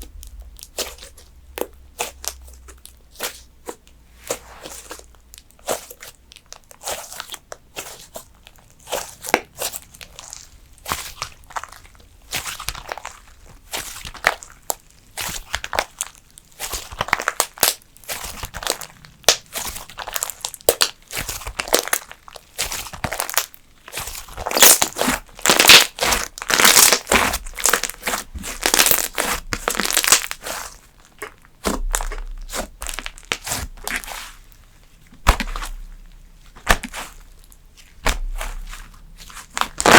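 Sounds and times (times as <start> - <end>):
slime squished by hand: 0.0 - 39.9.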